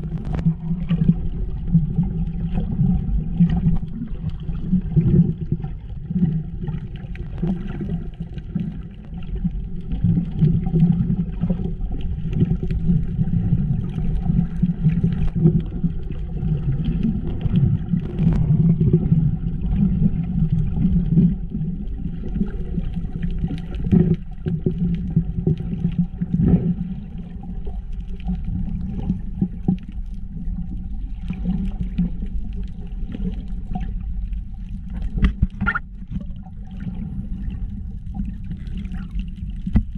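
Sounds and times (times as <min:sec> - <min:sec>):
muffled underwater rumble: 0:00.0 - 0:39.9
sharp clicks underwater: 0:00.0 - 0:39.9.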